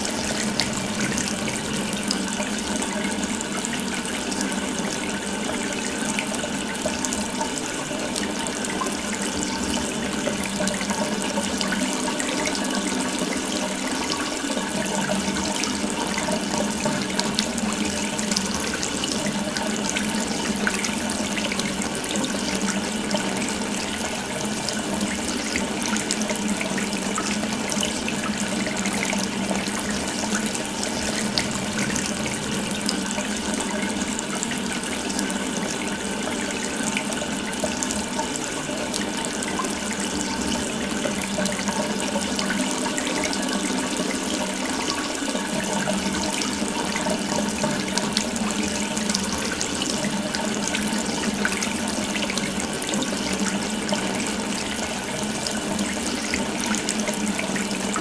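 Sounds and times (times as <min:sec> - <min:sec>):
tap water running into sink: 0:00.0 - 0:58.0.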